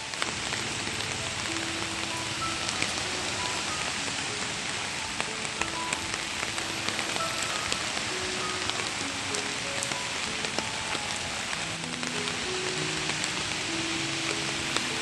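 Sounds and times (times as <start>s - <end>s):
heavy rain falling: 0.0s - 15.0s
sharp raindrop hits: 0.0s - 15.0s
soft melody of held notes: 0.0s - 15.0s.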